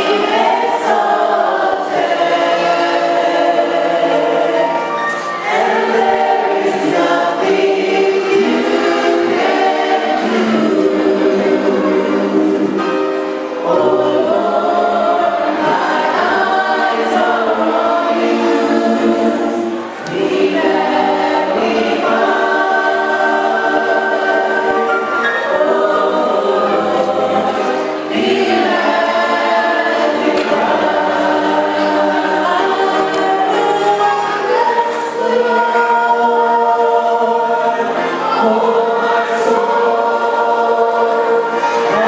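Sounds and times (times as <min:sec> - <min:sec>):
voices singing a hymn: 0:00.0 - 0:42.0.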